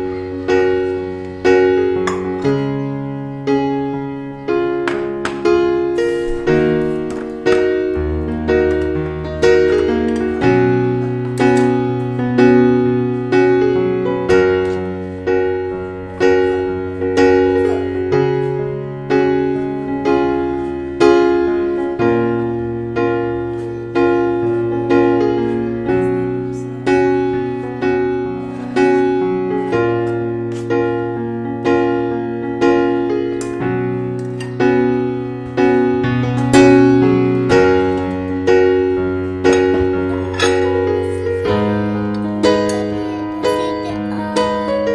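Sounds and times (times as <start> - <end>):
solo piano music: 0.0 - 44.9.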